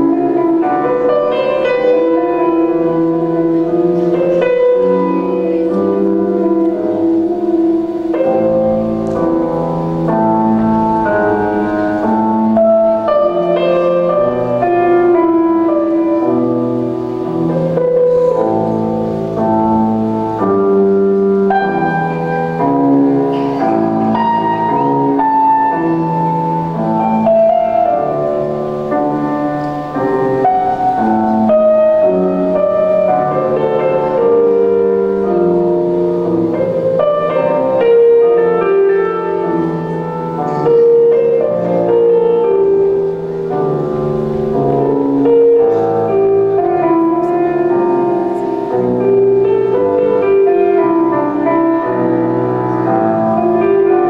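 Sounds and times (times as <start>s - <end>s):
instrumental melody of long held notes: 0.0s - 54.0s
low accompanying notes: 0.0s - 54.0s.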